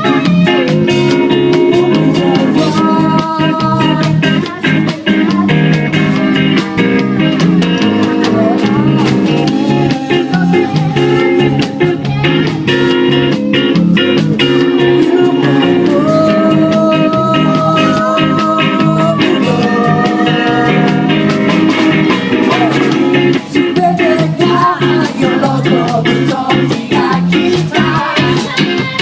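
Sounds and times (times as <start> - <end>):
guitar playing: 0.0 - 29.0
percussion playing: 0.0 - 29.0.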